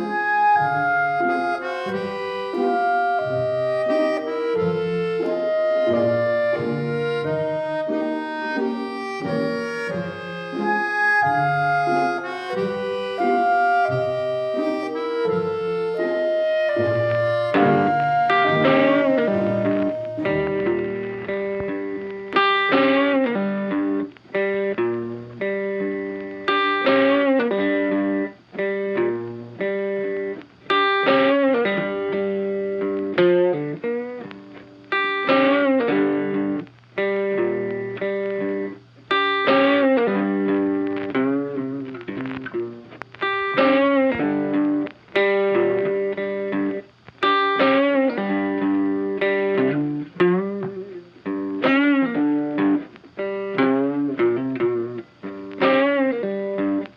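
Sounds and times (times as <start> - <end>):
plucked guitar playing: 0.0 - 56.9.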